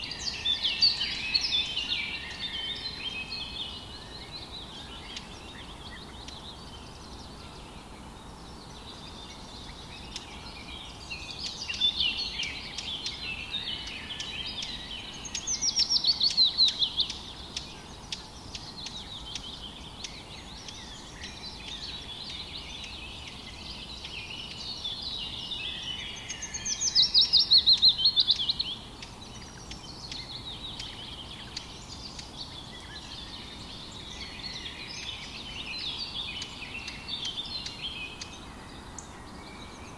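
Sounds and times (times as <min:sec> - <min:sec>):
faint background noise: 0:00.0 - 0:39.9
songbirds chirping and warbling: 0:00.0 - 0:39.9.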